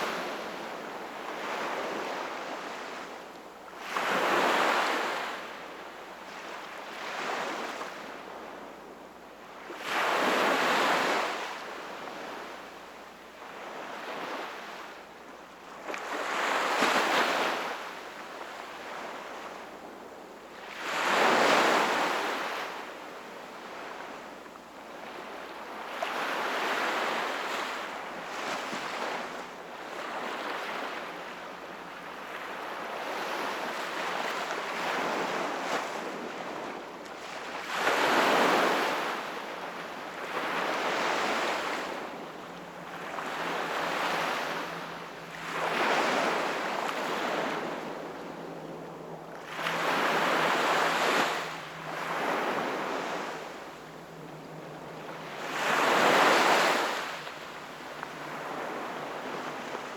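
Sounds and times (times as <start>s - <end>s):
small ocean waves breaking: 0.0s - 59.9s.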